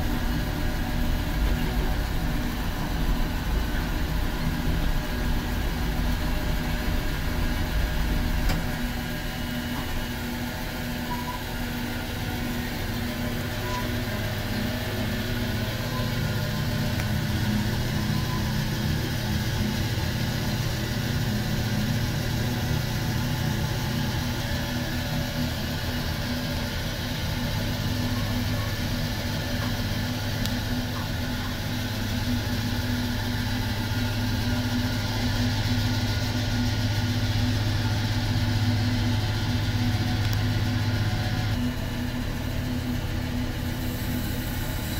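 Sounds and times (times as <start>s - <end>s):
low mechanical rumble: 0.0s - 44.9s
sawmill machinery running: 0.0s - 44.9s.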